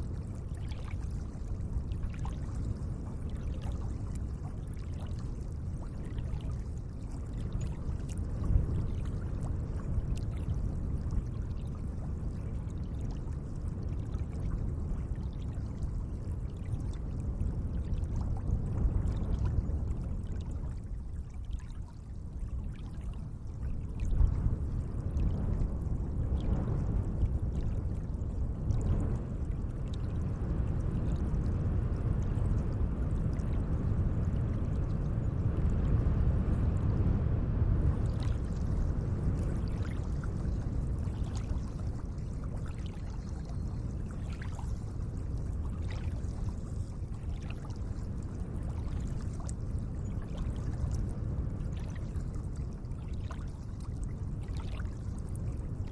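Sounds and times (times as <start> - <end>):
small splashes and drips: 0.0 - 30.2, 38.0 - 55.9
water lapping and sloshing: 0.0 - 32.6, 33.2 - 33.6, 37.8 - 55.9.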